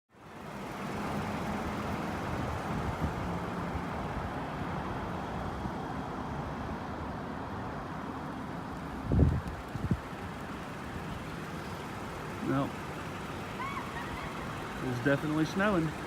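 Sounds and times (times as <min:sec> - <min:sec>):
distant road traffic rumble: 0:00.1 - 0:16.0.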